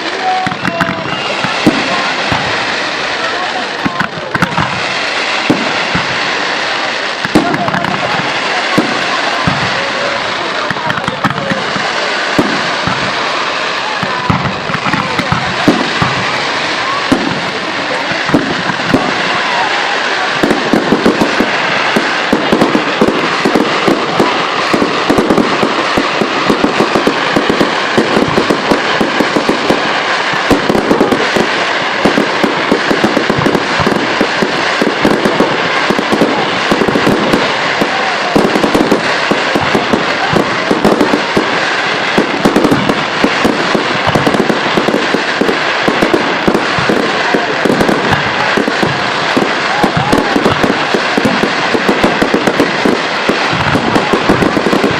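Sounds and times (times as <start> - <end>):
firework bangs and crackles: 0.0 - 54.9.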